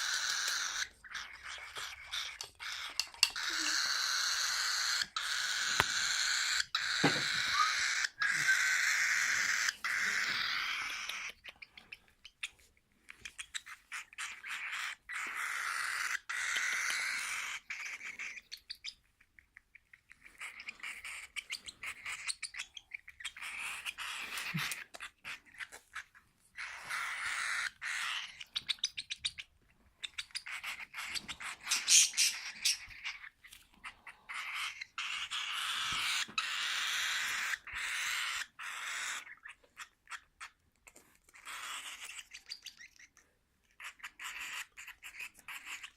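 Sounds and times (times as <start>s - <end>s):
parrot chicks begging calls: 0.0s - 12.6s, 13.2s - 45.9s.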